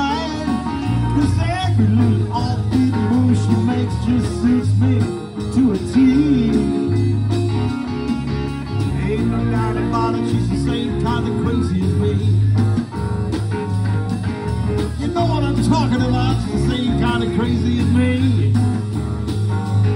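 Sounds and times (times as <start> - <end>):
blues-rock band playing: 0.0 - 19.9
electric guitar lead: 0.0 - 19.9.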